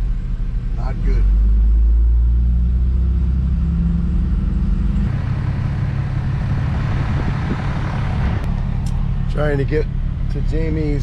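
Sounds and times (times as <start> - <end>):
truck engine drone: 0.0 - 11.0
wind and road noise: 0.0 - 11.0.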